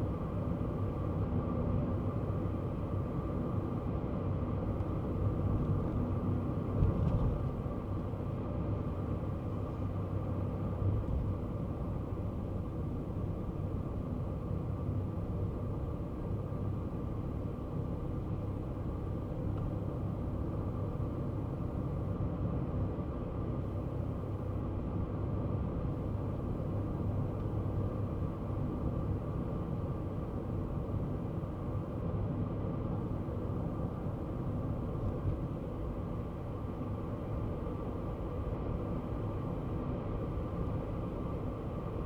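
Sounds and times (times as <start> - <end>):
car engine and road rumble: 0.0 - 42.0.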